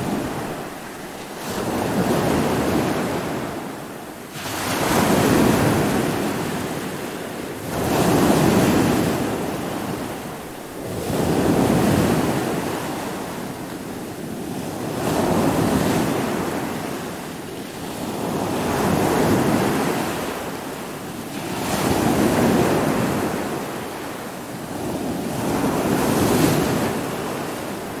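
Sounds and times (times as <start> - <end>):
heavy waves breaking: 0.0 - 28.0
steady wind: 0.0 - 28.0.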